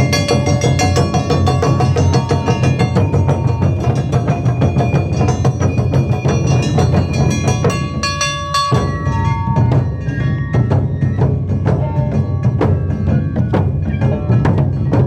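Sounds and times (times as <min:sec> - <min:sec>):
held melodic tones: 0:00.0 - 0:14.1
heavy low drum pulse: 0:00.0 - 0:15.0
rapid drum strikes: 0:00.0 - 0:15.0.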